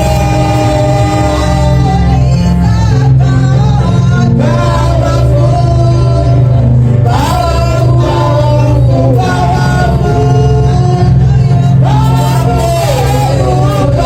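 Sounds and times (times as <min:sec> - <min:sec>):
band with steady bass: 0:00.0 - 0:14.0
singer leading gospel music: 0:00.0 - 0:14.0.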